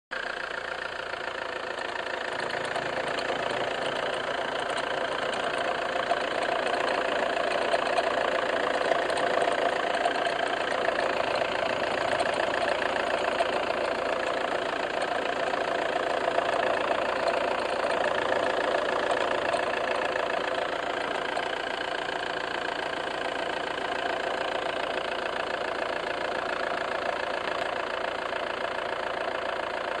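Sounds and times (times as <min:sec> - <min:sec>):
diesel engine idling: 0:00.1 - 0:30.0.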